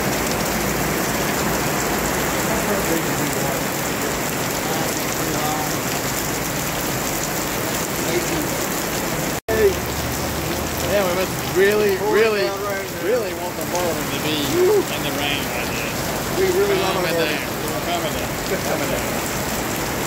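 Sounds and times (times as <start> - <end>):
heavy rain on pavement and vehicles: 0.0 - 20.0.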